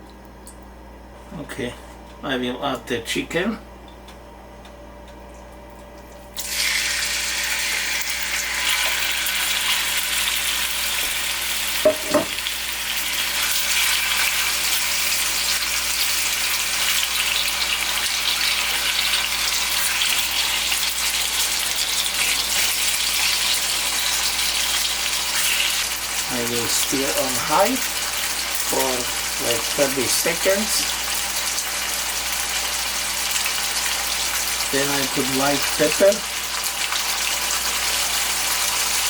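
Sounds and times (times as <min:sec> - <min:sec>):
chicken sizzling in hot oil: 0:06.4 - 0:39.0.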